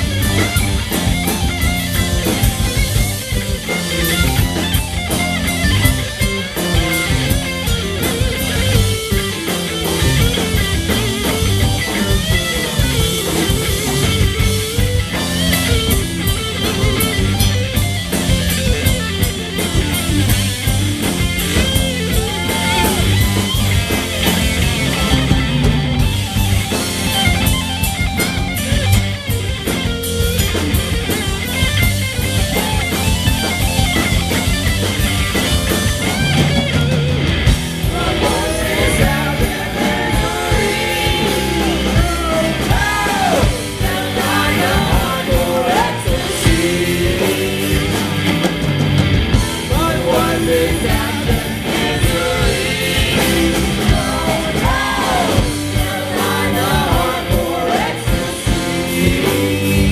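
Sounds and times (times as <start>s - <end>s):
bass guitar: 0.0s - 59.9s
drum kit: 0.0s - 59.9s
electric guitar lead melody: 0.0s - 59.9s.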